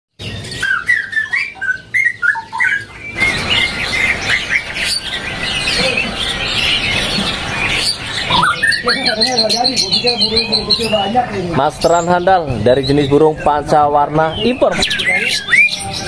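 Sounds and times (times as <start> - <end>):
background hubbub: 0.2 - 16.0
songbirds singing: 0.2 - 16.0.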